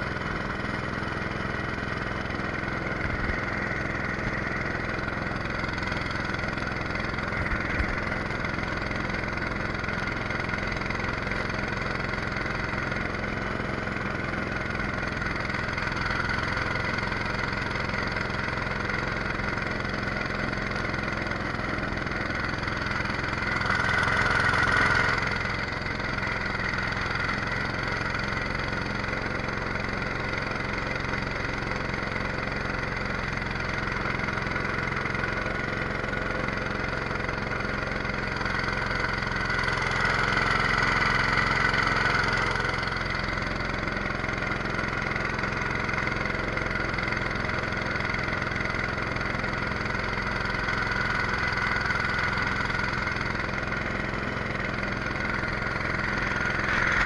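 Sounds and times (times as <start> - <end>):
small boat engine running: 0.0 - 57.0.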